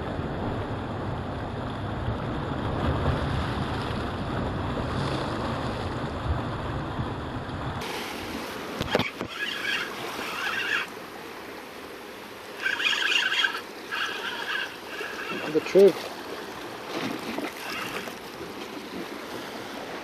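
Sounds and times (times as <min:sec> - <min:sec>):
sea washing against rocks: 0:01.9 - 0:20.0.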